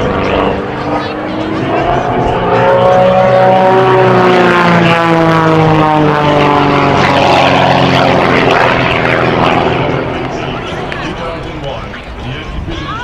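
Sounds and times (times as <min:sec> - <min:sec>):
biplane engine and propeller: 0:00.0 - 0:13.0.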